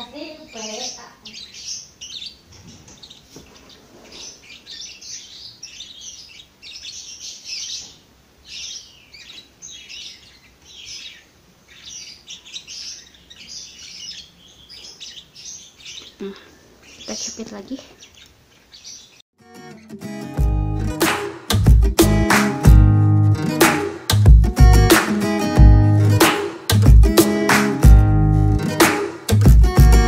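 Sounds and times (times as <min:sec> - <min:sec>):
birds chirping: 0:00.0 - 0:19.2, 0:20.7 - 0:30.0.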